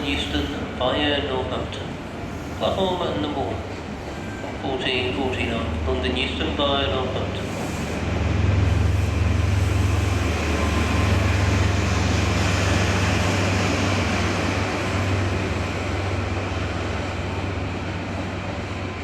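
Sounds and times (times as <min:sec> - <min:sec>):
diesel train rumble: 0:00.0 - 0:19.0.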